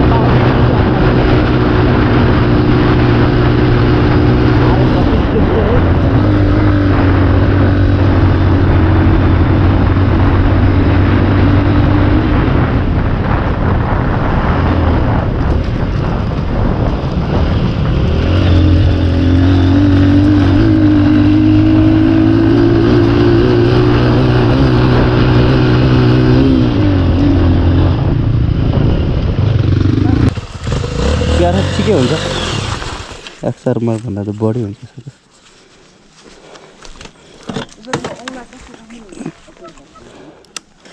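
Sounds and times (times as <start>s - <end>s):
dirt bike engine running: 0.0s - 33.5s.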